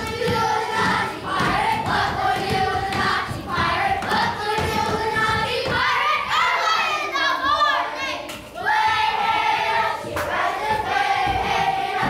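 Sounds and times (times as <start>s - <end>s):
children singing in unison: 0.0s - 12.0s.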